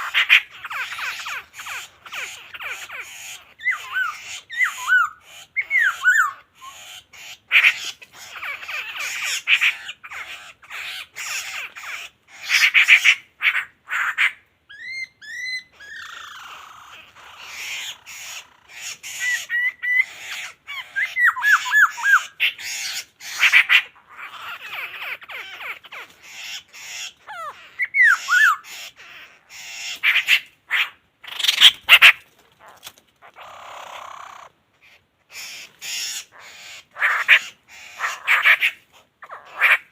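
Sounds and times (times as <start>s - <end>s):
birds chattering harshly: 0.0s - 39.9s.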